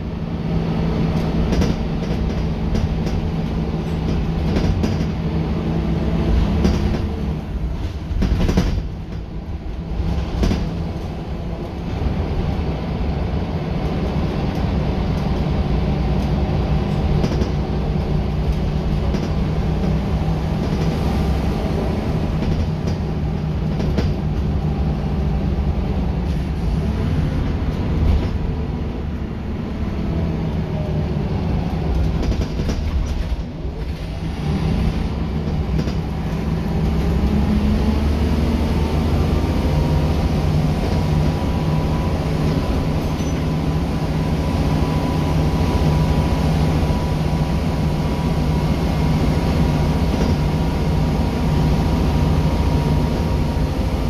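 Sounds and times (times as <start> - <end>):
bus engine drone: 0.0 - 54.0
road rumble: 0.0 - 54.0.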